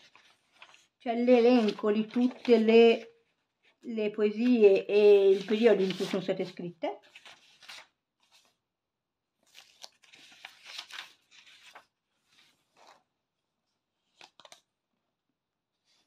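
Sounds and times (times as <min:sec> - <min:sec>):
book pages rustling: 0:00.0 - 0:08.6, 0:09.4 - 0:14.8.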